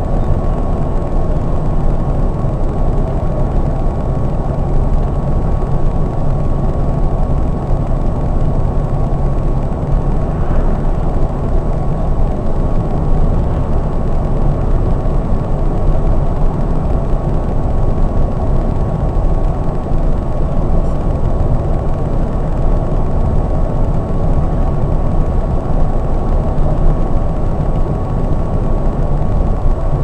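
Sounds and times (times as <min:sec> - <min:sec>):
thin steady whine: 0:00.0 - 0:29.9
coach engine and road rumble: 0:00.0 - 0:30.0.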